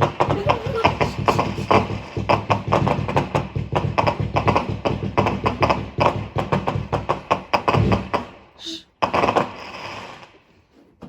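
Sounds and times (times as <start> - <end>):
fireworks crackling and popping: 0.0 - 10.9.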